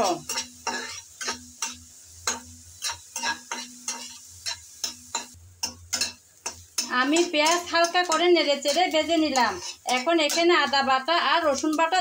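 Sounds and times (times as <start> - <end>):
onions sizzling in oil: 0.0 - 12.0
spatula scraping a metal pan: 0.0 - 12.0.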